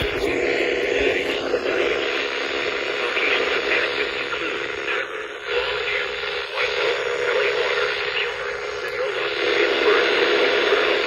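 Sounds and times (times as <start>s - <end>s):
weather radio through static: 0.0s - 11.0s.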